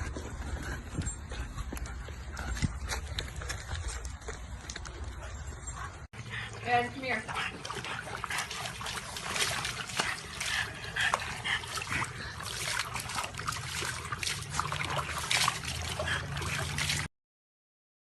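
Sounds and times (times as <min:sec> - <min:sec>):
water splashing and trickling: 0:00.0 - 0:17.1.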